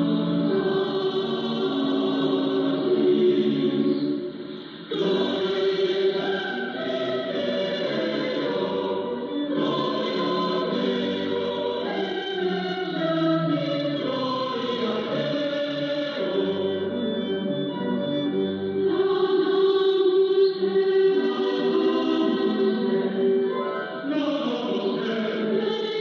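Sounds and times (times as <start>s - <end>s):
choir singing over am radio: 0.0s - 26.0s.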